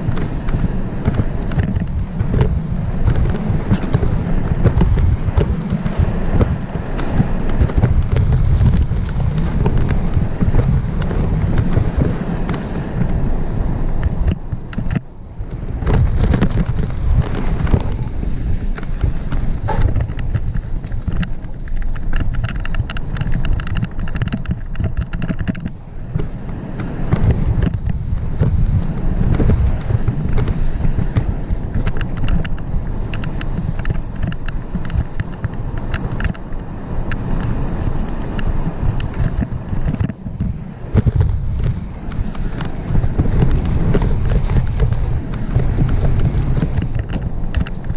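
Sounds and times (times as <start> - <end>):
bike rattling over rough dirt: 0.0 - 47.9
wind buffeting microphone: 0.0 - 47.9.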